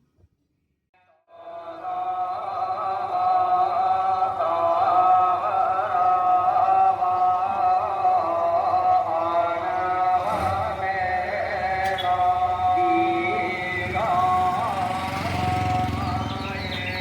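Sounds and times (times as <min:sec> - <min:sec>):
chant-like drone music: 0:01.4 - 0:17.0.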